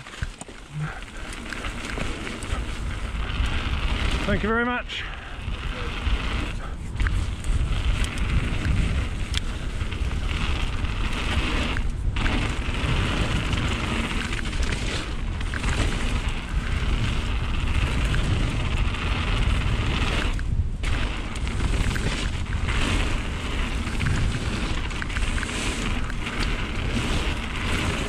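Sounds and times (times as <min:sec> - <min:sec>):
bike rattling: 0:00.0 - 0:28.0
bike tyres rumbling: 0:00.0 - 0:28.0
wind rushing over microphone: 0:00.0 - 0:28.0.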